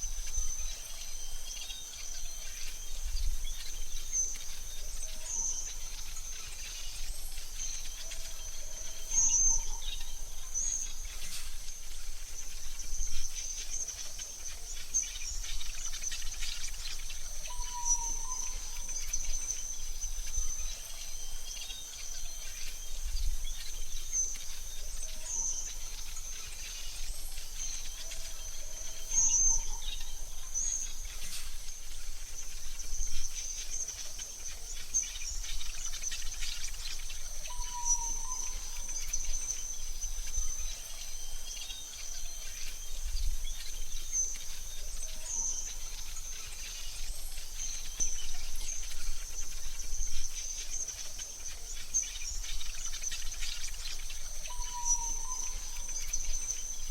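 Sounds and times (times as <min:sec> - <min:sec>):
bird chirps: 0:00.0 - 0:56.9.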